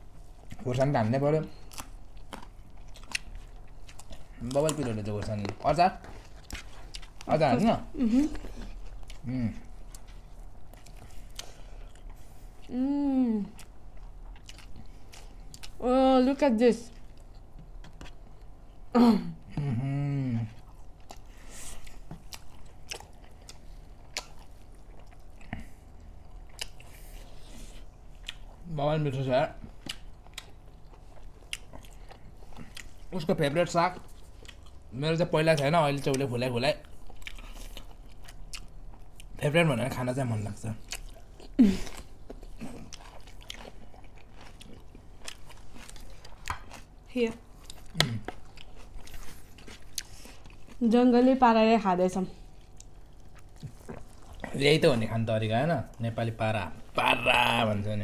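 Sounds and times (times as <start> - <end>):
close chewing: 0.0 - 12.7, 13.5 - 15.8, 20.5 - 28.7, 29.6 - 39.4, 40.4 - 50.9, 52.4 - 56.2.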